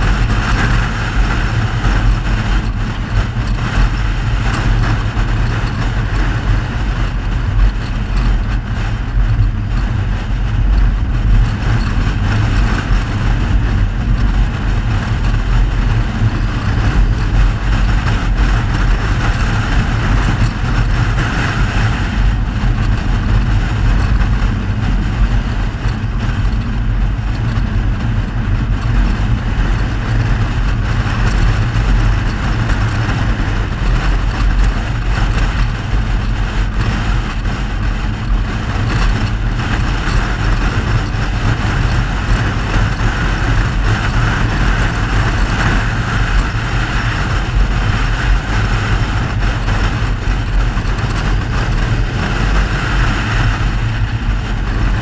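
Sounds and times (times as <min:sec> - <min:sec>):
car driving rumble with hiss: 0:00.0 - 0:55.0.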